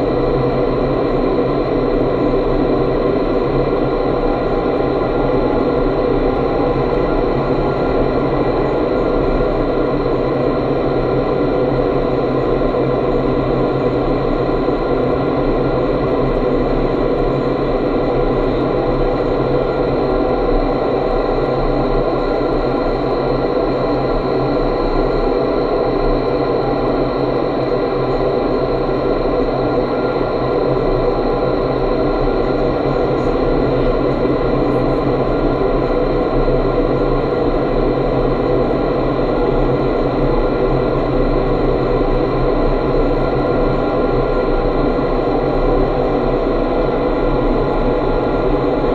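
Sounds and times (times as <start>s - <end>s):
faint steady hums: 0.0s - 48.9s.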